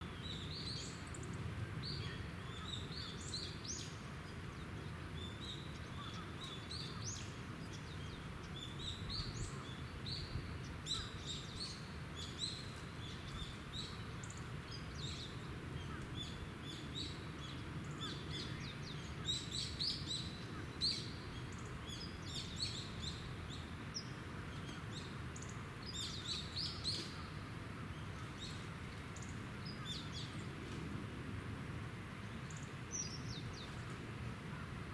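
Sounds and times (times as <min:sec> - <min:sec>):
birds chirping: 0:00.0 - 0:30.9, 0:32.1 - 0:34.7.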